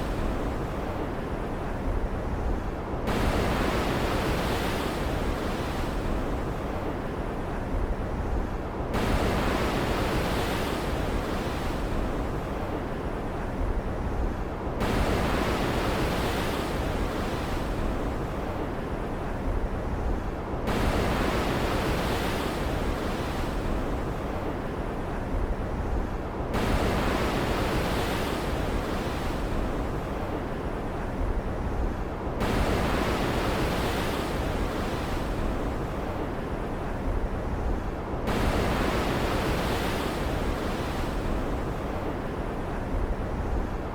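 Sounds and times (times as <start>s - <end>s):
ocean waves surging and washing: 0.0s - 43.9s.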